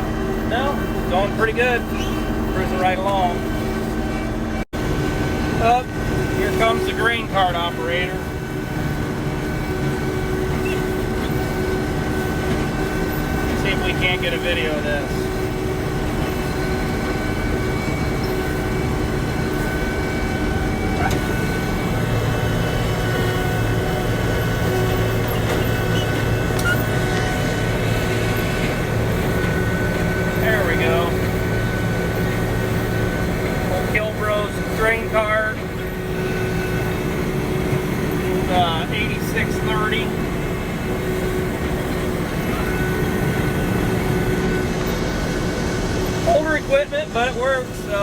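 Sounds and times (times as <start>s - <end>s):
combine harvester engine drone: 0.0s - 48.0s.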